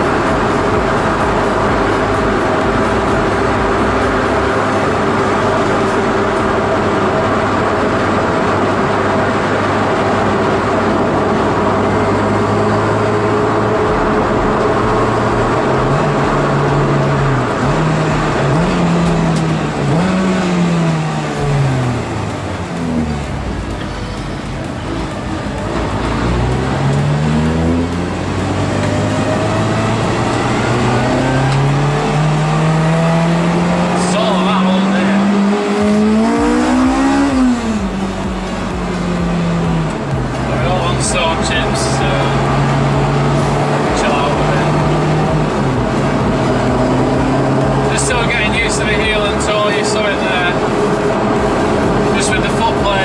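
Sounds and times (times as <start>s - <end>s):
car interior road and engine noise: 0.0s - 53.0s
low hum: 0.0s - 53.0s.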